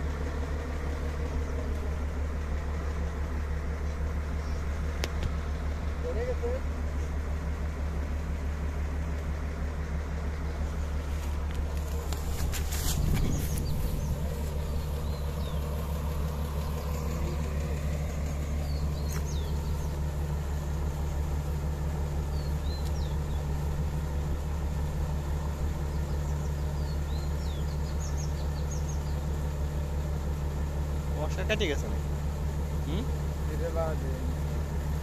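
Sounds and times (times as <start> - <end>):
birds chirping: 0.0 - 35.0
excavator diesel engine idling: 0.0 - 35.0.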